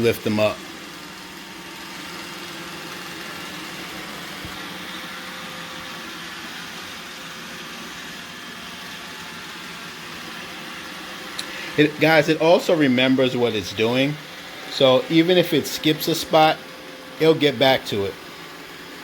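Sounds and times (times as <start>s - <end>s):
robot vacuum whirring: 0.0s - 19.0s.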